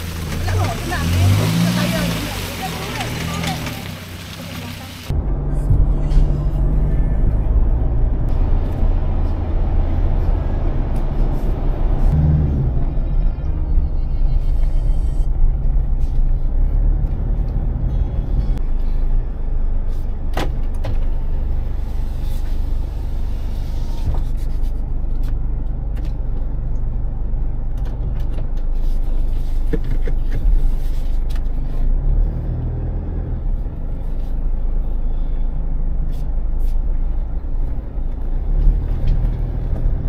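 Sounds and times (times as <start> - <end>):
vehicle low rumble: 0.0 - 40.0.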